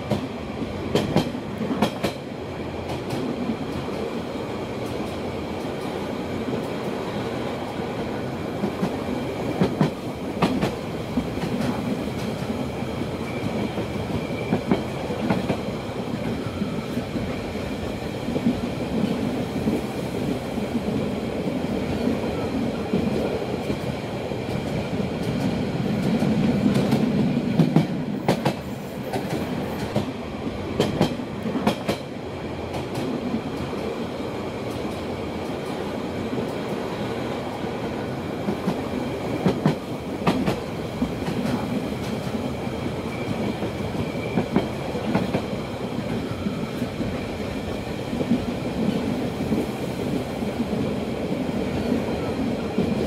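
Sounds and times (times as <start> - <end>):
rail joint clicks: 0.0 - 4.1, 4.7 - 20.0, 20.9 - 30.2, 30.8 - 34.0, 38.4 - 50.1
train wheels rumbling on rails: 0.0 - 53.0.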